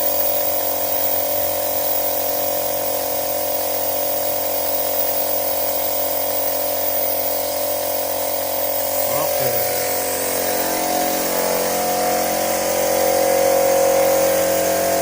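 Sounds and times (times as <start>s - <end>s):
machine whining: 0.0s - 15.0s.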